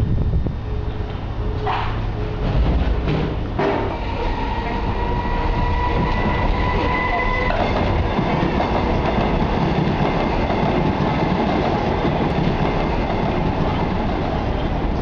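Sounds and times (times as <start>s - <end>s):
train wheels on rails: 0.3s - 15.0s.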